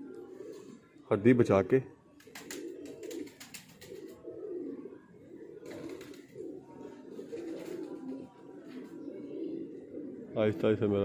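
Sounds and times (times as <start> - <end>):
pigeons cooing: 0.0 - 1.3, 1.9 - 11.0.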